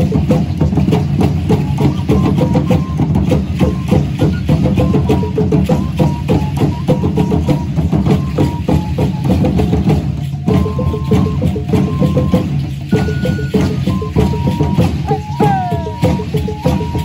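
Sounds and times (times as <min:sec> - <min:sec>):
deeper drum beat: 0:00.0 - 0:17.0
small flute melody: 0:01.2 - 0:17.0.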